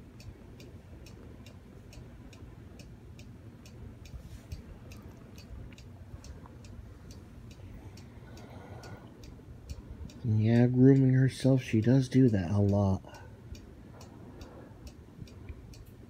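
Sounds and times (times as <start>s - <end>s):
clock ticking: 0.0s - 16.0s
low steady rumble: 0.0s - 16.0s.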